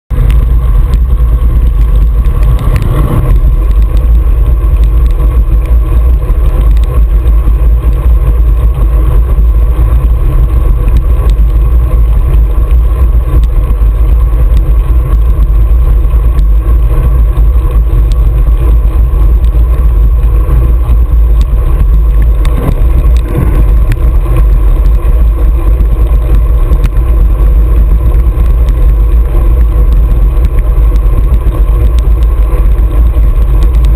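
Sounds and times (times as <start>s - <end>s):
wind rumble on microphone: 0.1s - 33.9s.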